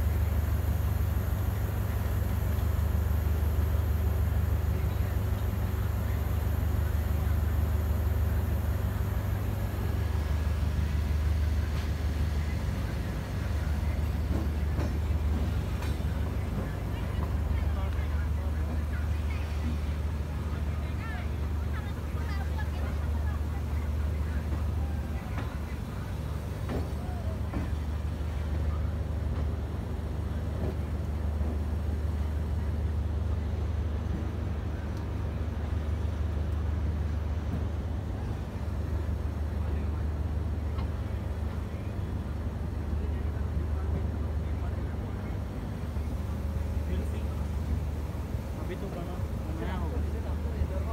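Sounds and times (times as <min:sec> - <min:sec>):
diesel train engine droning: 0:00.0 - 0:50.9
hiss of moving train: 0:00.0 - 0:50.9.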